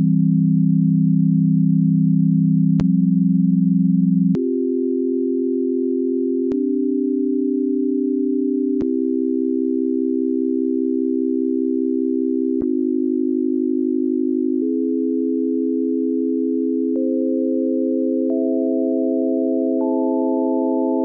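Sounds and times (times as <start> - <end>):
synthesized sine tone chords: 0.0 - 21.0.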